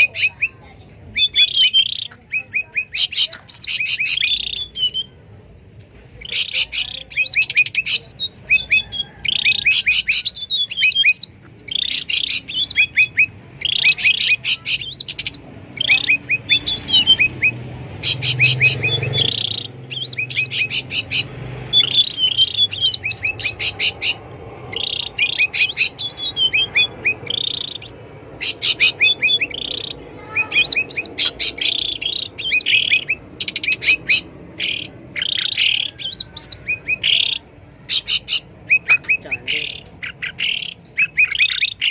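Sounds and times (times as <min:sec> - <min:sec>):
bulbul chirping and chattering: 0:00.0 - 0:05.3, 0:06.0 - 0:41.9.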